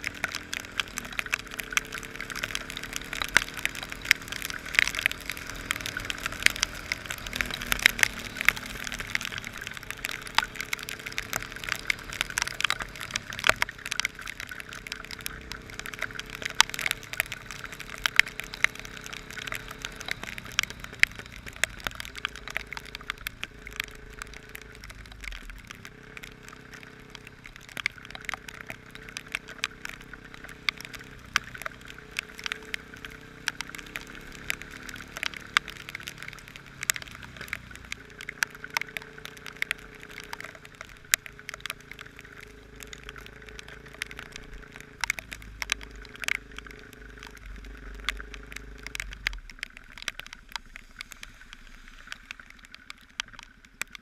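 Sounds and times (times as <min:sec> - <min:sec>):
rain hiss: 0:00.0 - 0:54.0
raindrops ticking near microphone: 0:00.0 - 0:54.0.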